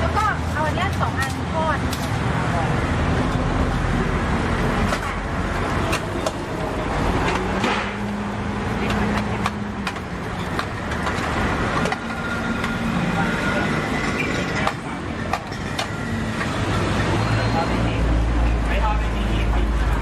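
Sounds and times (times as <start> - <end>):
low rumble of traffic: 0.0 - 20.0
engine-like hum: 1.5 - 20.0.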